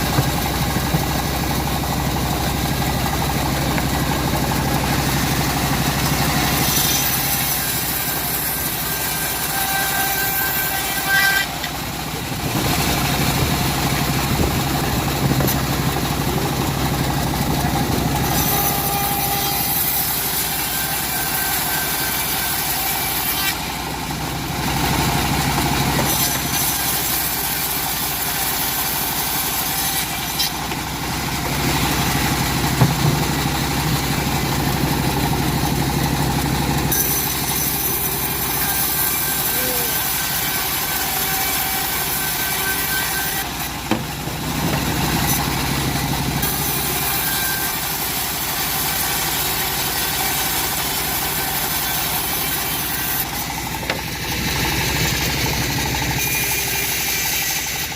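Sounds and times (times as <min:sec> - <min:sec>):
engine-driven saw cutting wood: 0:00.0 - 0:57.9.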